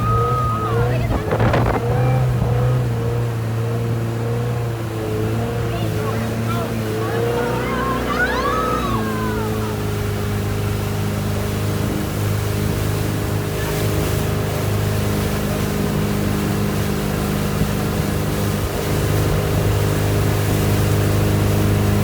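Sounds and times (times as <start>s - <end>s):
motorboat engine running: 0.0s - 22.0s
water rushing: 0.0s - 22.0s
wind: 0.0s - 22.0s.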